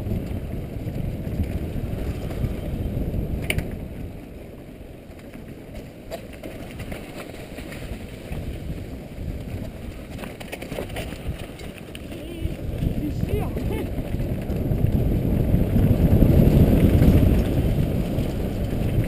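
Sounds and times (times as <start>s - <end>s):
bike rattling: 0.0s - 19.0s
tyres on dirt: 0.0s - 19.0s
wind on microphone: 0.0s - 19.0s.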